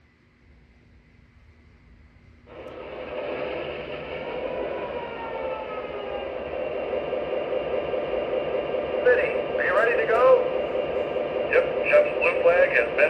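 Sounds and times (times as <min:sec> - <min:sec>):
model locomotive engine sound: 0:02.5 - 0:13.0.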